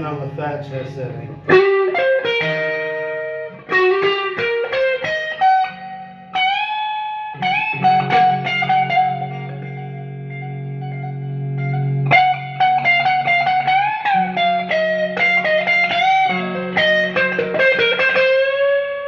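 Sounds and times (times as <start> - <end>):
electric guitar with reverb: 0.0 - 19.0.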